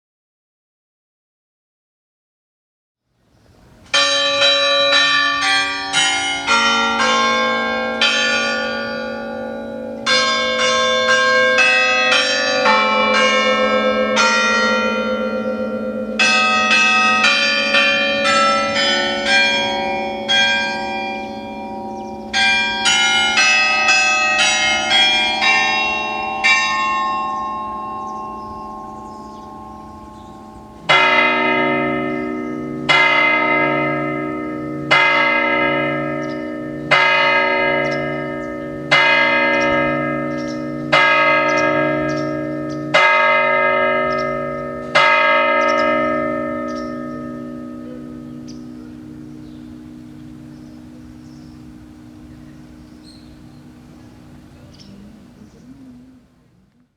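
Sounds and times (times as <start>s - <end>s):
clock tower bells chiming: 3.9s - 54.9s
low bell strike: 4.0s - 54.4s.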